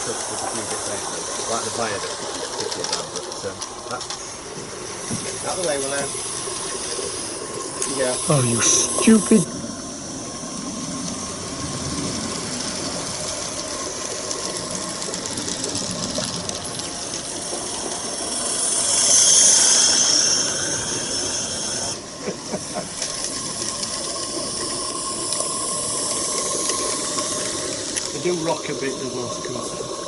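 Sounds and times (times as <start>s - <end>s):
high-pitched steam hiss: 0.0s - 15.5s, 16.7s - 30.0s
steam locomotive hissing: 0.0s - 30.0s.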